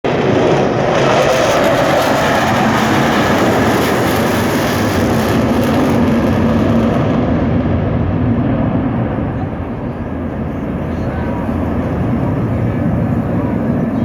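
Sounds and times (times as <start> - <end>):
jet flying by: 0.0 - 14.0.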